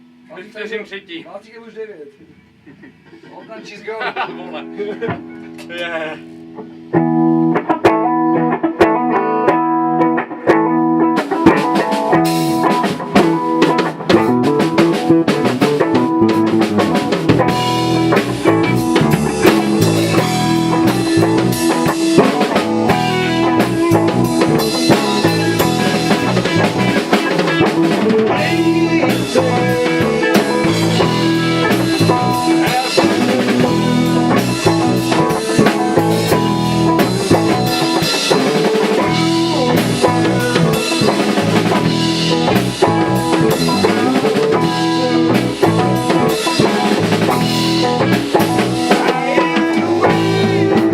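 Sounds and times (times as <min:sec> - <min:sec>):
guitar: 0:00.0 - 0:01.2, 0:02.2 - 0:50.9
drum kit beat: 0:05.0 - 0:50.9.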